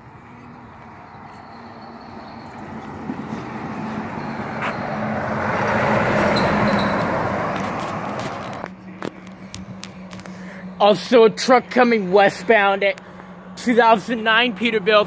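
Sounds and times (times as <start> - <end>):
semi-truck driving past: 0.0 - 15.0.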